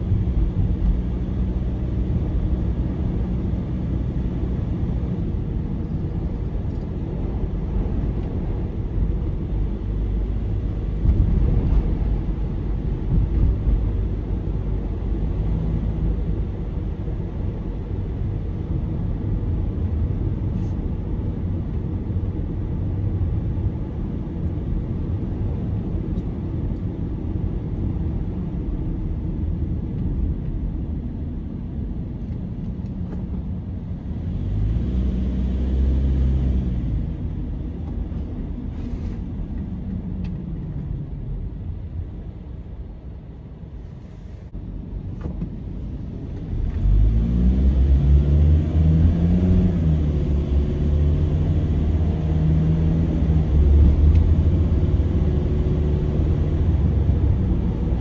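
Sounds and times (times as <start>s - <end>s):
car driving rumble from inside: 0.0s - 58.0s.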